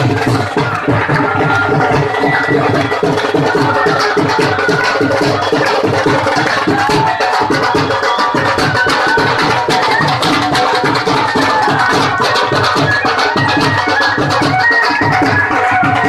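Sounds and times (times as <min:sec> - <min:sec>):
loud music with fast drum beat: 0:00.0 - 0:16.0.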